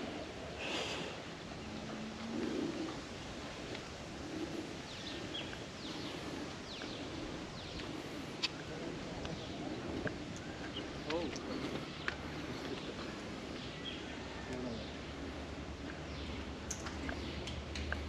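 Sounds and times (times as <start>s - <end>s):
birds calling: 0.0s - 18.0s
open-air background noise: 0.0s - 18.0s.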